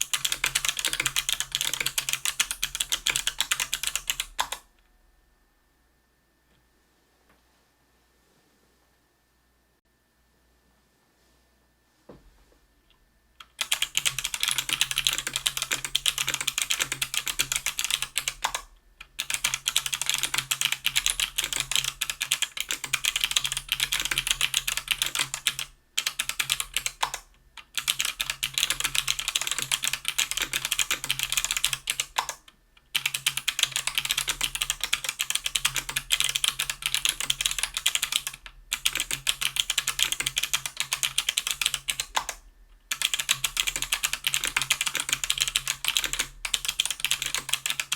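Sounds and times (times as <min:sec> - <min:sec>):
fast typing on clicky keyboard: 0:00.0 - 0:04.6, 0:13.4 - 0:47.9.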